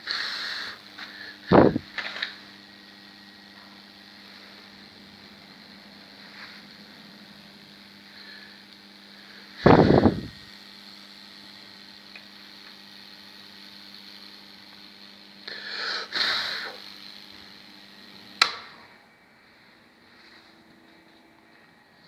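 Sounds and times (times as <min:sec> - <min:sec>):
sharp electrical snap: 0:00.0 - 0:19.0
crackling sizzling electrical bursts: 0:00.0 - 0:20.4
electrical hum: 0:00.0 - 0:22.0.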